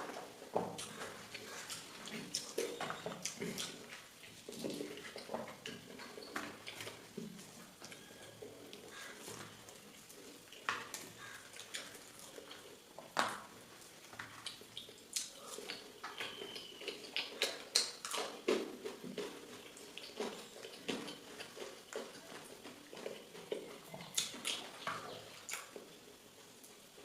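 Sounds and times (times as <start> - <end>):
person chewing: 0.7 - 26.8.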